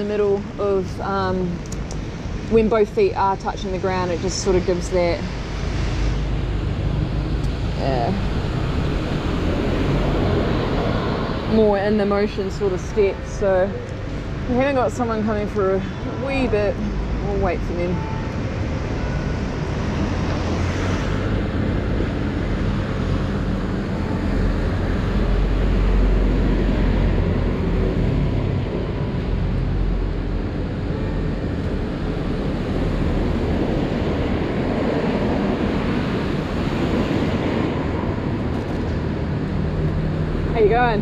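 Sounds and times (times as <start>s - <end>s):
traffic on wet street: 0.0s - 41.0s.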